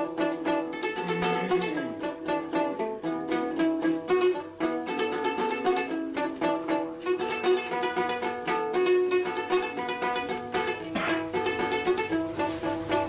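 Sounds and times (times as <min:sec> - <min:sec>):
plucked string instrument music: 0:00.0 - 0:13.0.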